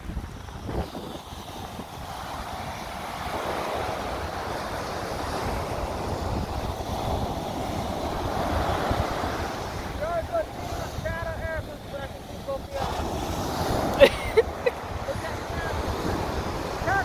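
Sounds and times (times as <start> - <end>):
ocean surf washing on shore: 0.0 - 17.0
wind buffeting microphone: 0.0 - 17.0.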